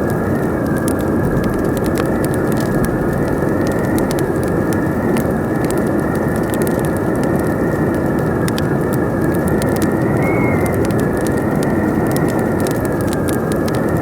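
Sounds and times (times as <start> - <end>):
campfire crackling and popping: 0.0 - 14.0
howling wind: 0.0 - 14.0.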